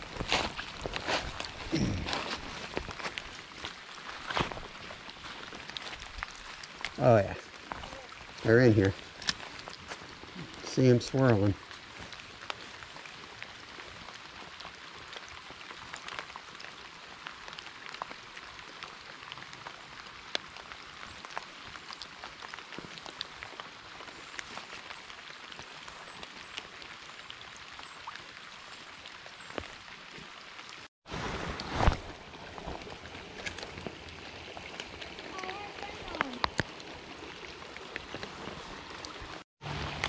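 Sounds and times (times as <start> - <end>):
rain falling on water: 0.0 - 40.0.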